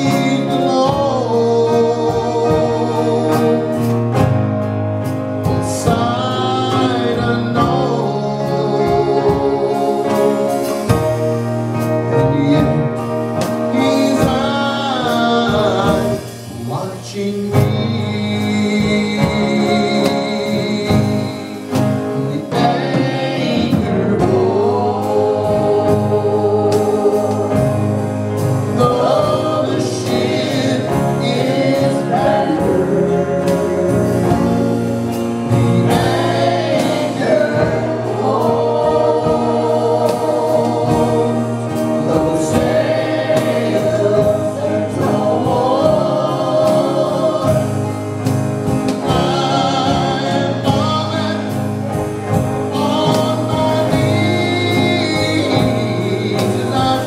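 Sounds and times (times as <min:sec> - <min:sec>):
group singing in harmony: 0:00.0 - 0:57.0.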